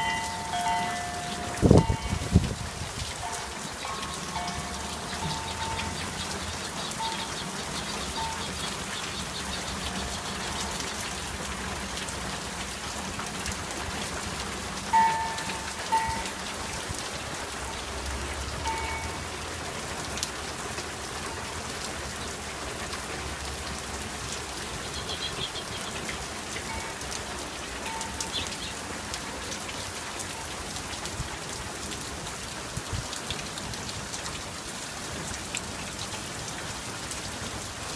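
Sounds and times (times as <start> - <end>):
rain pattering: 0.0 - 37.9.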